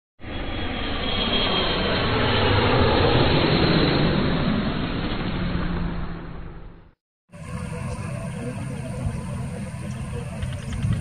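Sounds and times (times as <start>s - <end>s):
jet engine rushing: 0.2s - 11.0s.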